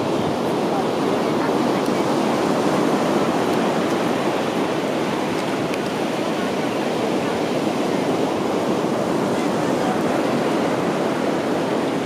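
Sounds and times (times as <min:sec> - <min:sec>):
ocean surf on beach: 0:00.0 - 0:12.0.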